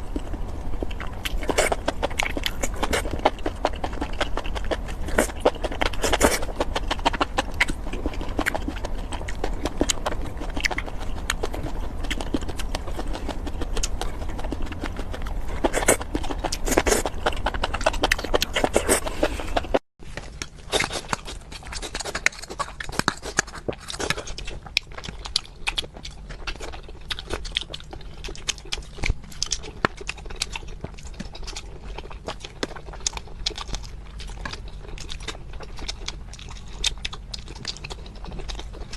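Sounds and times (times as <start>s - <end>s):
wet chewing and smacking: 0.0s - 38.9s.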